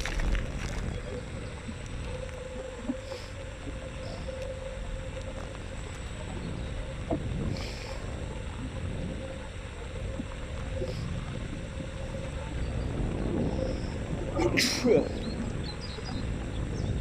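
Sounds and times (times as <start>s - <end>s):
electric scooter motor whining: 0.0s - 17.0s
wind and road noise: 0.0s - 17.0s.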